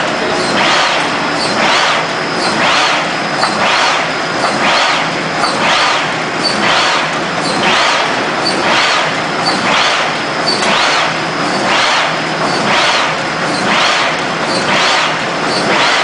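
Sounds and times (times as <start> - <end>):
machine running noise: 0.0 - 16.0
stamping machine hissing: 0.0 - 16.0.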